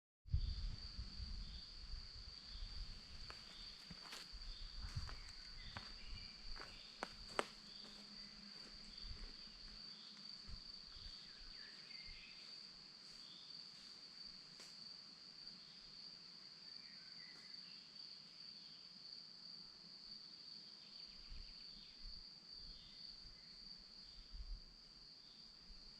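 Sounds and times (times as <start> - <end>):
crickets chirring: 0.3 - 25.9.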